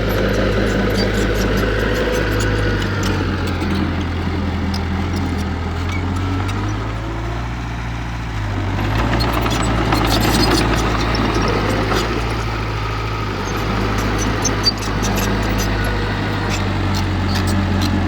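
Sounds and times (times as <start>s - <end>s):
heavy diesel engine revving: 0.0s - 18.0s.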